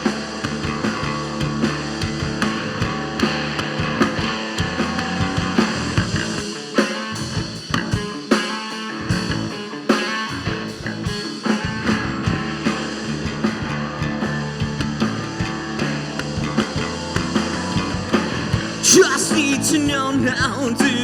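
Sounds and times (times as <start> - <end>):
drum hits: 0.0 - 8.2, 9.0 - 21.0
rock band playing live: 0.0 - 21.0.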